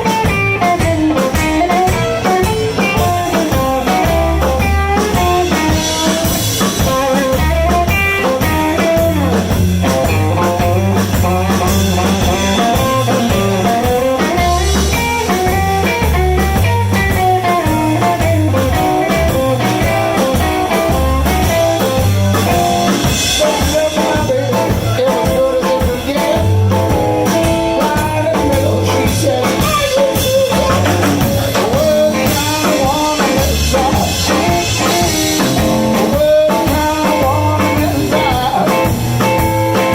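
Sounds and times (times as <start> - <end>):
blues band playing live: 0.0 - 39.9
electric guitar: 0.0 - 39.9.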